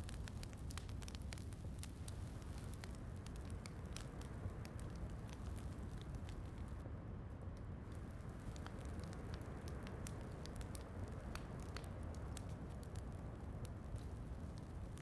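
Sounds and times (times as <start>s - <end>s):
wood fire crackling: 0.0s - 6.8s, 7.4s - 15.0s.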